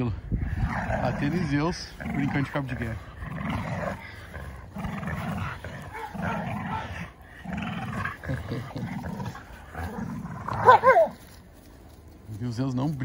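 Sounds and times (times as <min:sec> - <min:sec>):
dogs growling: 0:00.3 - 0:11.4.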